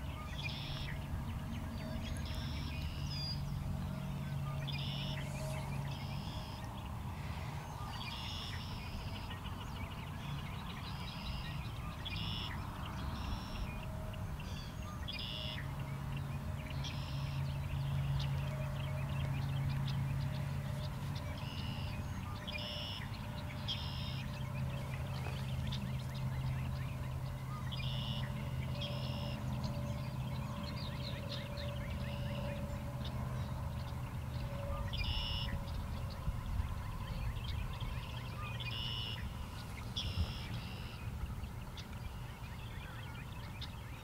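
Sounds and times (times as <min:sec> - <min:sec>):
birds chirping: 0:00.0 - 0:44.0
steady low hum: 0:00.0 - 0:44.0.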